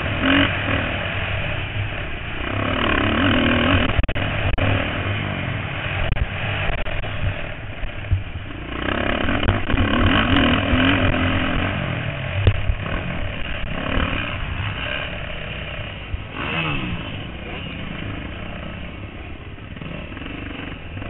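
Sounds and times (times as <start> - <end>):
motocross bikes revving past: 0.0 - 21.0.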